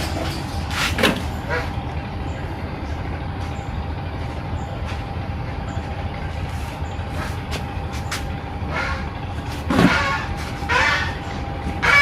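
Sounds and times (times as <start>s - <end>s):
machine rumble and hum: 0.0s - 12.0s.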